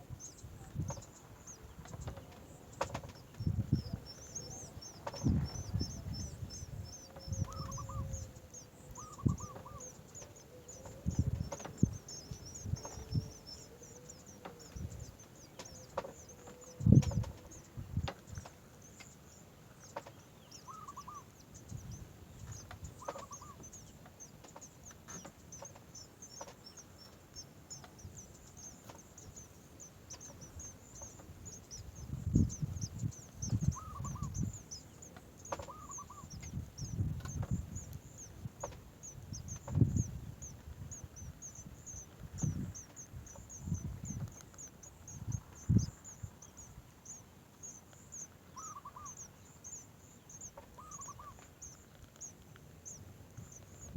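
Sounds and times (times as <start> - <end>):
birds chirping: 0.0 - 53.9
short lower bird calls: 3.0 - 17.7, 20.5 - 53.9.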